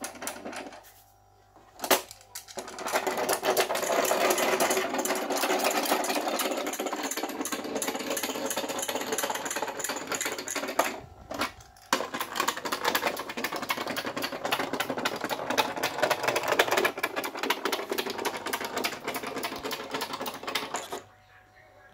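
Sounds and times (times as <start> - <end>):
toy motor clattering: 0.0 - 0.9, 1.8 - 21.0.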